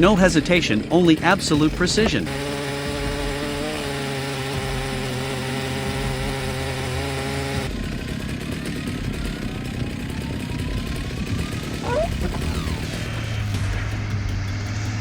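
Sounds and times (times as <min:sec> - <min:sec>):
chainsaw cutting log: 0:00.0 - 0:13.7
low engine rumble with whine: 0:00.0 - 0:15.0.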